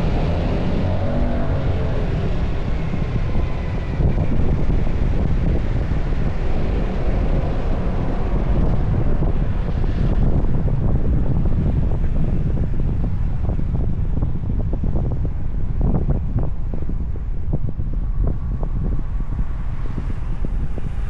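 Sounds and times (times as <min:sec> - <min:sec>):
vehicle driving on road: 0:00.0 - 0:21.0
wind buffeting microphone: 0:00.0 - 0:21.0.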